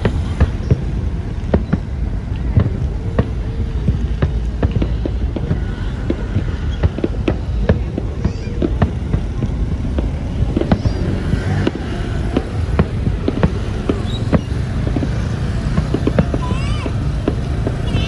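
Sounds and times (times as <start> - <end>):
fireworks popping: 0.0 - 18.0.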